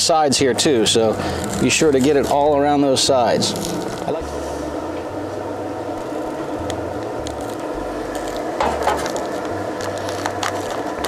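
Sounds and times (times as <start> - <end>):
smoker humming: 0.0 - 11.0.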